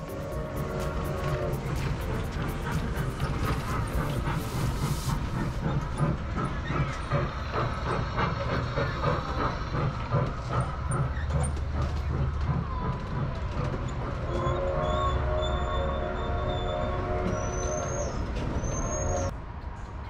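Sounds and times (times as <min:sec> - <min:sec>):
kiddie train chugging past: 0:00.0 - 0:19.3.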